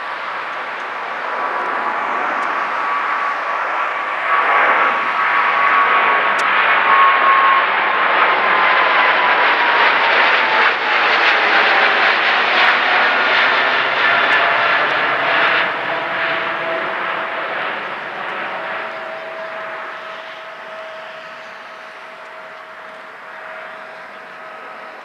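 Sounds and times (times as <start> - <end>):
jet engines roaring overhead: 0.0 - 25.0.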